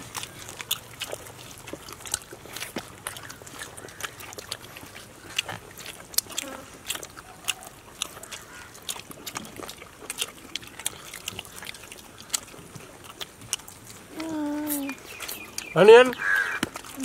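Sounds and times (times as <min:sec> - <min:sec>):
people chewing with wet smacks: 0:00.0 - 0:17.0.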